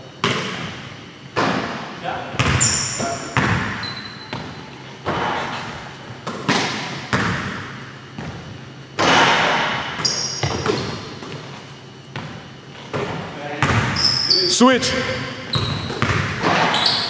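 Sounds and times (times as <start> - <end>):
basketballs bouncing on gym floor: 0.2 - 14.2, 14.8 - 17.0.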